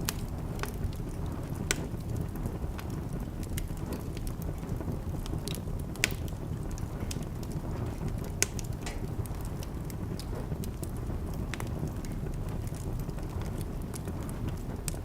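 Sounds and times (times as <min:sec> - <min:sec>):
sharp pops of fire: 0:00.0 - 0:15.0
steady low fire rumble: 0:00.0 - 0:15.0
wood fire crackling: 0:00.0 - 0:15.0.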